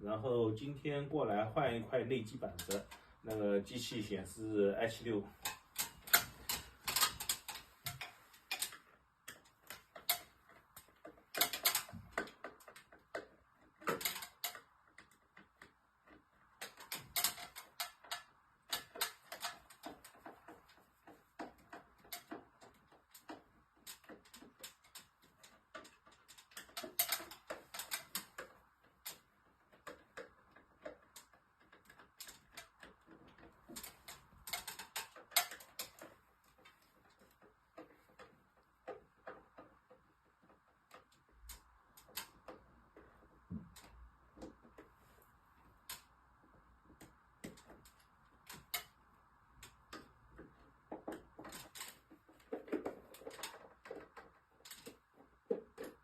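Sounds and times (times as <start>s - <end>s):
faint steady hiss: 0.0s - 56.0s
hand tools clicking and tapping: 0.6s - 56.0s.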